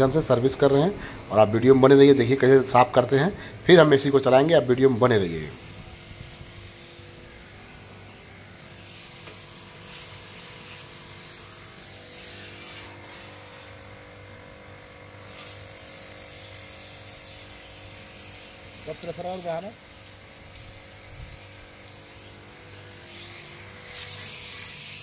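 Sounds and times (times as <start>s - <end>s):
pressure washer pump humming: 0.0s - 25.0s
water jet hissing on metal coil: 0.0s - 25.0s.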